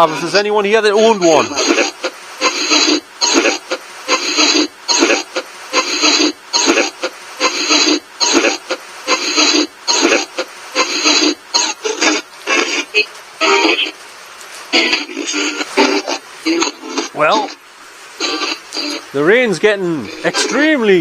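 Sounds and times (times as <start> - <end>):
radio static bursts: 0.0 - 21.0.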